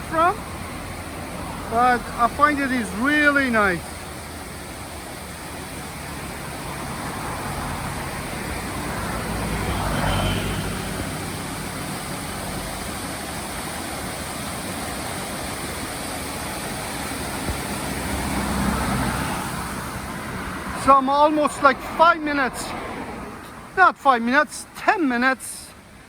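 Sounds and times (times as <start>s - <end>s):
steady traffic hiss: 0.0s - 26.0s
vehicles passing: 0.0s - 26.0s.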